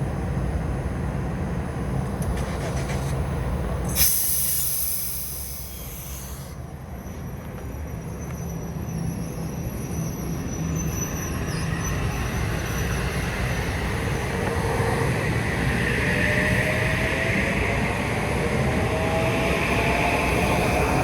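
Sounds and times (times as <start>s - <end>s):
train rumble and rail hiss: 0.0s - 21.0s.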